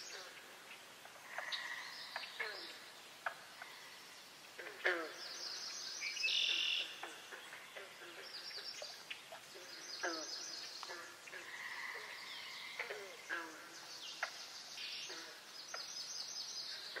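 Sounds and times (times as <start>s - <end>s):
small birds chirping and trilling: 0.0s - 17.0s.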